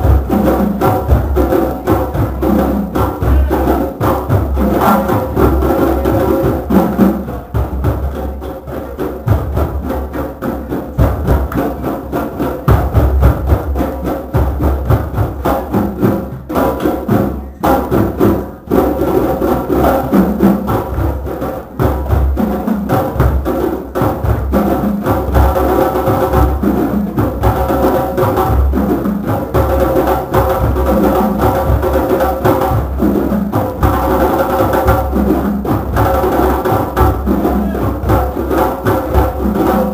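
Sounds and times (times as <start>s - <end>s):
hand drums playing rhythm: 0.0s - 39.9s.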